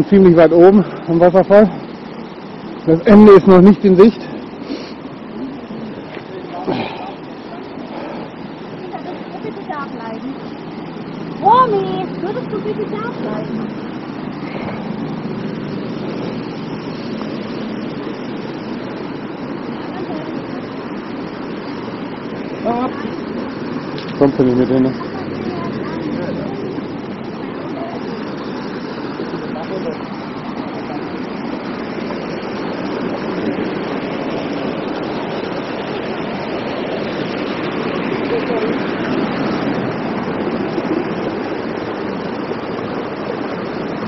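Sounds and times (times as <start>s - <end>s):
stream rushing over boulders: 0.0s - 44.0s.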